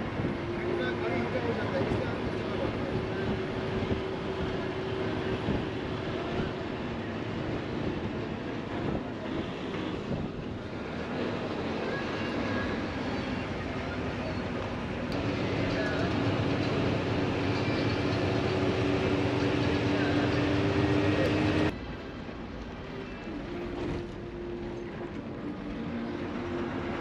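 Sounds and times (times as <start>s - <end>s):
bus engine running: 0.0s - 27.0s
road and rattle noise: 0.0s - 27.0s.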